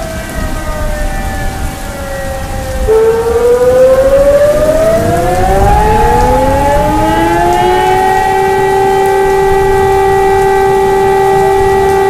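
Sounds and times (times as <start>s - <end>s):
air raid sirens wailing: 0.0s - 12.0s.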